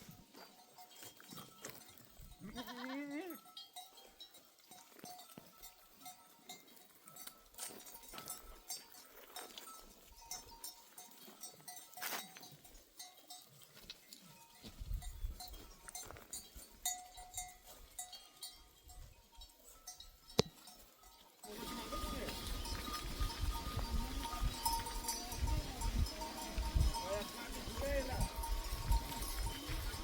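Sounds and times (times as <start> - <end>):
sheep bells clinking: 0.0 - 30.0.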